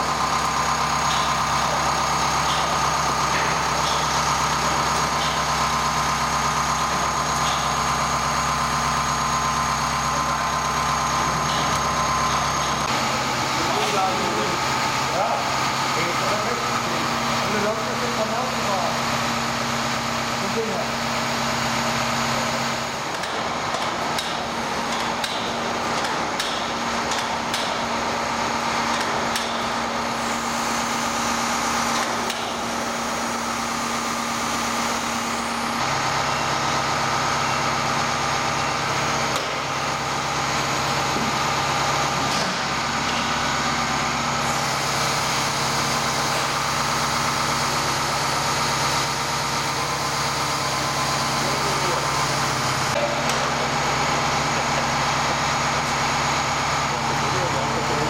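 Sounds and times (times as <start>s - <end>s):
heavy machinery droning: 0.0s - 58.0s.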